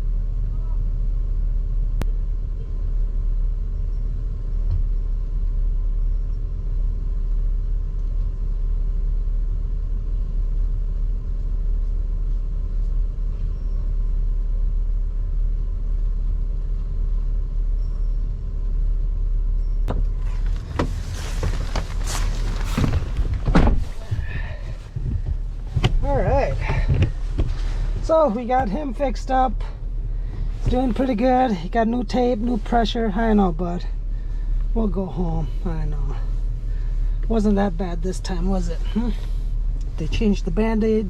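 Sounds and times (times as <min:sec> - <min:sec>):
van rumble from inside cab: 0:00.0 - 0:41.0.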